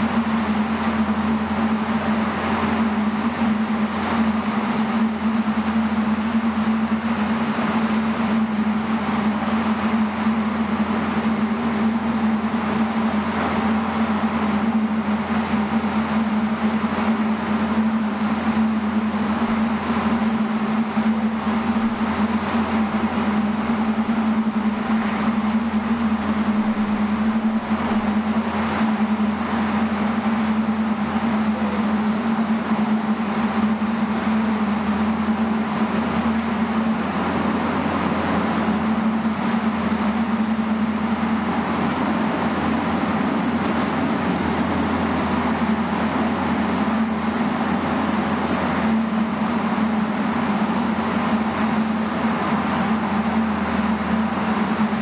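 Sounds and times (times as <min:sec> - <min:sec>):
excavator diesel engine: 0:00.0 - 0:55.0
low hum: 0:00.0 - 0:55.0
mist cannon running: 0:00.0 - 0:55.0.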